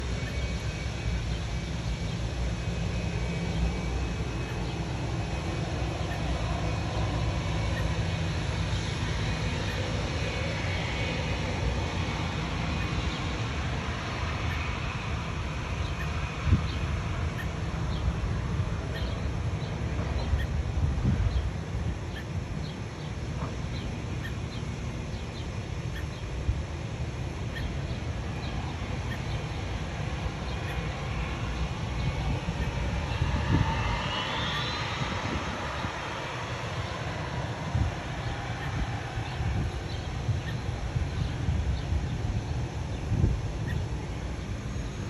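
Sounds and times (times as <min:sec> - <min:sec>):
low outdoor rumble: 0:00.0 - 0:45.0.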